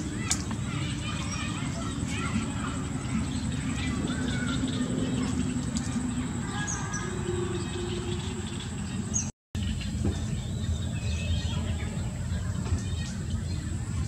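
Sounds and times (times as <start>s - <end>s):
small birds chirping: 0.0s - 14.0s
steady low noise: 0.0s - 14.0s.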